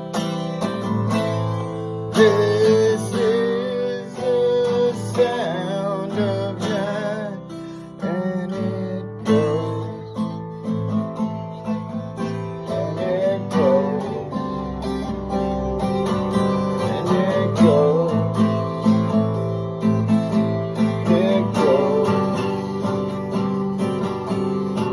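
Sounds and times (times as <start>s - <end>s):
acoustic guitar strumming chords: 0.0s - 24.9s.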